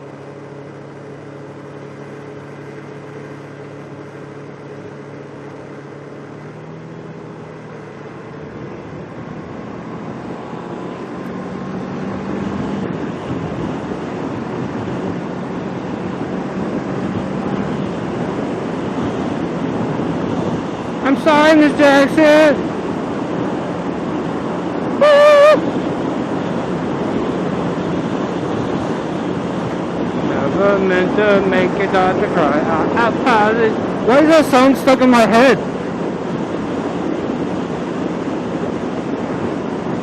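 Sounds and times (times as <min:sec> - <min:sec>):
motorcycle engine accelerating: 0:00.0 - 0:40.0
wind and road noise: 0:00.0 - 0:40.0.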